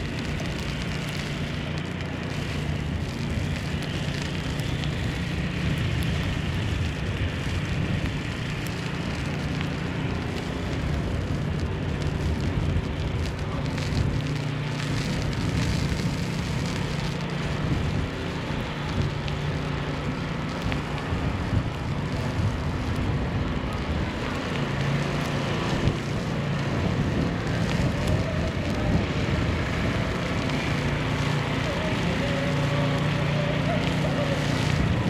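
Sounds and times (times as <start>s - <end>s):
falling snow patter: 0.0s - 35.0s.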